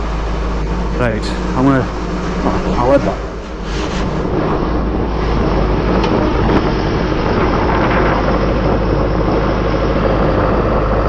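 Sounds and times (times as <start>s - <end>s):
air compressor running: 0.0s - 11.0s
sandblasting rushing noise: 0.0s - 11.0s.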